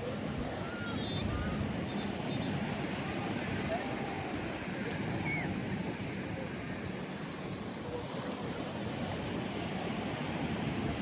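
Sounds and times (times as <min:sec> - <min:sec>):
ocean surf washing in: 0:00.0 - 0:11.0
wind on microphone: 0:00.0 - 0:11.0.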